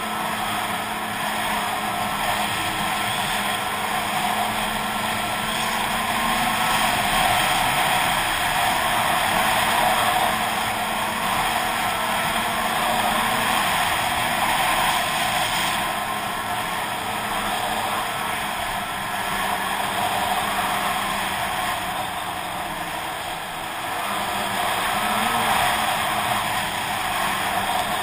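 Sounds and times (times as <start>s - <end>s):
snowmobile engine droning: 0.0s - 28.0s.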